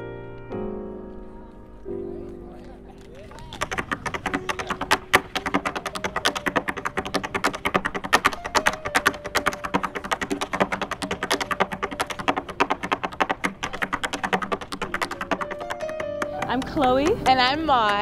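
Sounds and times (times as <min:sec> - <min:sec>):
tap shoes on a board: 0:03.3 - 0:18.0.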